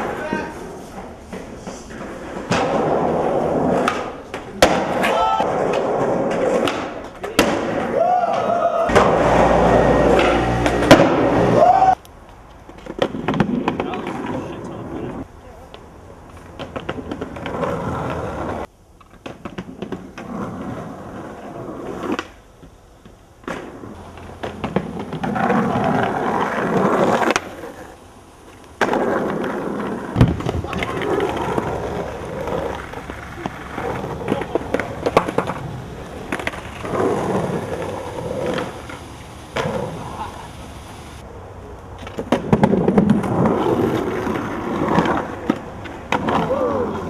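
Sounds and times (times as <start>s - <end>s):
skateboard clacks: 0.0s - 40.6s, 42.0s - 47.0s
skateboards rolling on rough ground: 0.0s - 47.0s.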